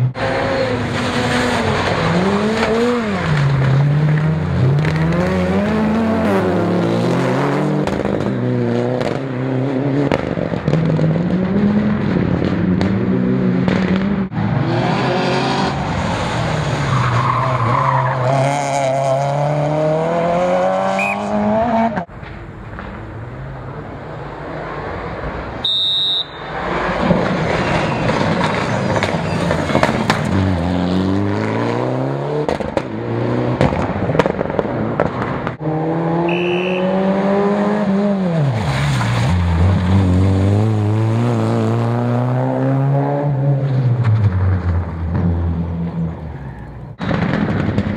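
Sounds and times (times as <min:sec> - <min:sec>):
rally car engines revving: 0:00.0 - 0:22.1, 0:26.3 - 0:47.9
tyres skidding: 0:00.0 - 0:47.9.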